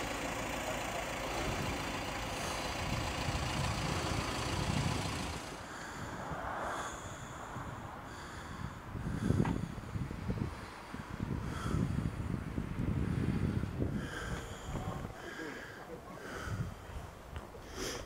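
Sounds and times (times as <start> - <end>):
van engine rumbling: 0.0 - 18.0.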